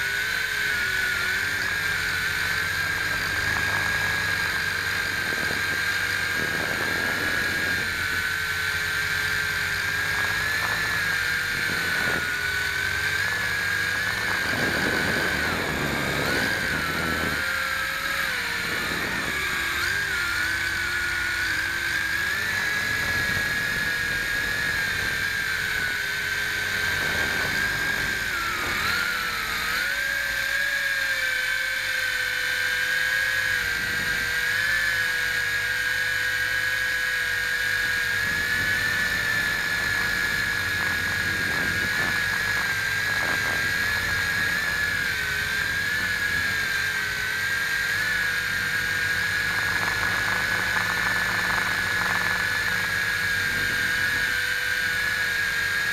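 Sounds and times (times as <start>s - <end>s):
quadcopter motors whining: 0.0s - 55.9s.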